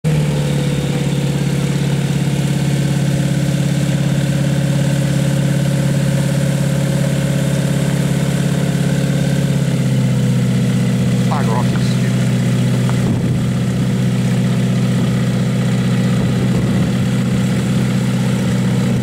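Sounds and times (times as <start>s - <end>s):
propeller plane engine droning: 0.1s - 19.0s.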